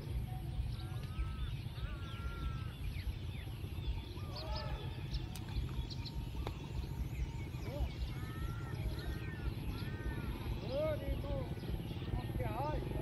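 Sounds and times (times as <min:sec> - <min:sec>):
birds chirping and calling: 0:00.0 - 0:13.0
low steady rumble: 0:00.0 - 0:13.0
whistled bird calls: 0:00.1 - 0:13.0.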